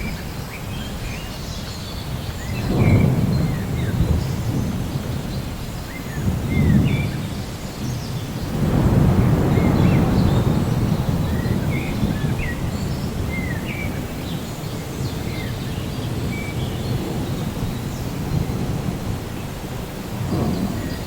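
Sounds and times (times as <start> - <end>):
birds chirping: 0.0 - 21.0
steady rain: 0.0 - 21.0
low rolling thunder: 2.0 - 21.0.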